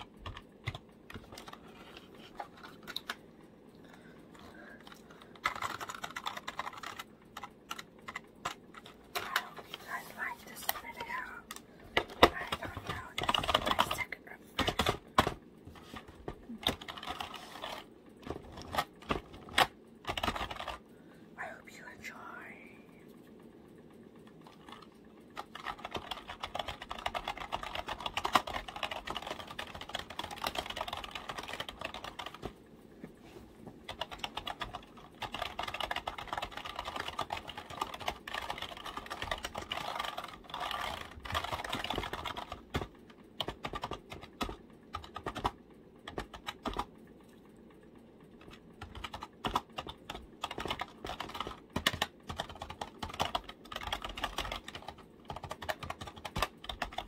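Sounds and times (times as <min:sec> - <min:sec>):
fast typing on keyboard: 0:00.0 - 0:03.2, 0:03.8 - 0:20.9, 0:24.4 - 0:32.6, 0:33.9 - 0:46.9, 0:48.3 - 0:57.0.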